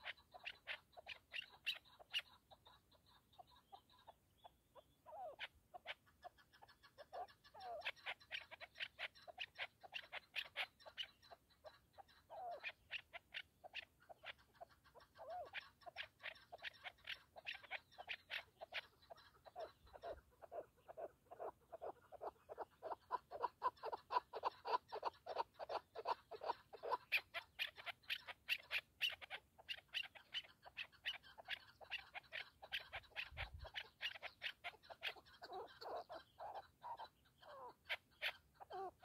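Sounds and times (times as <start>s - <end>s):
partridge clucking calls: 0.0s - 39.0s.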